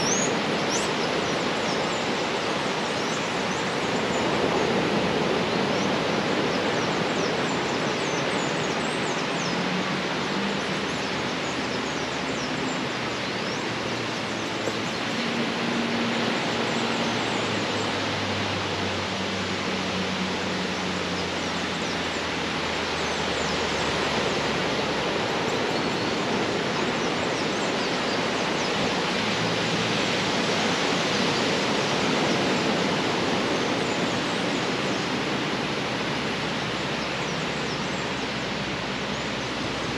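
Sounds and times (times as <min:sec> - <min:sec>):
rain: 0:00.0 - 0:39.9
water and surf rushing: 0:00.0 - 0:39.9.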